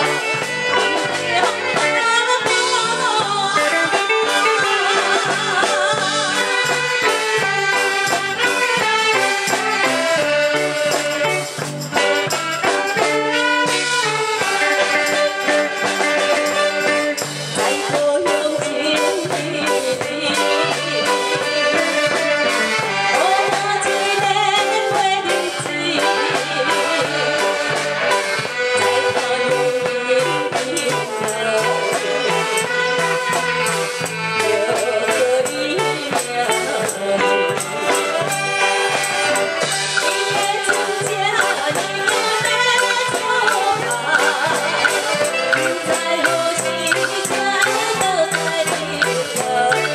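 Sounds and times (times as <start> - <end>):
band music with steady beat: 0.0 - 49.9.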